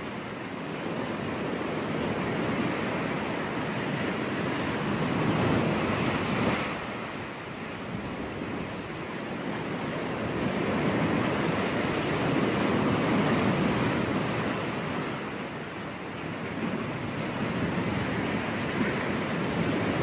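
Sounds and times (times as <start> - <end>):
ocean waves rushing: 0.0 - 20.0.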